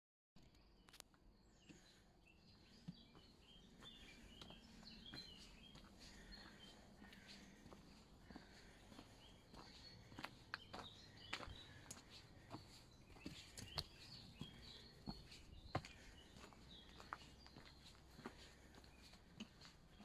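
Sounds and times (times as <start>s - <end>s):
birds chirping: 0.4s - 20.0s
footsteps on gravel: 2.6s - 20.0s.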